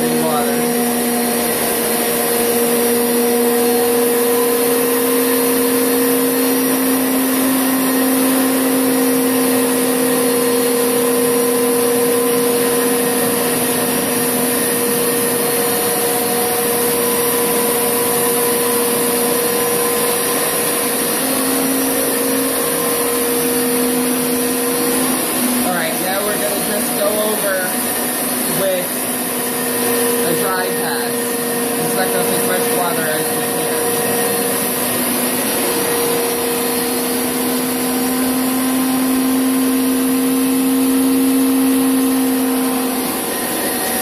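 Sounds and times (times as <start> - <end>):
carpet cleaner motor hum: 0.0 - 44.0.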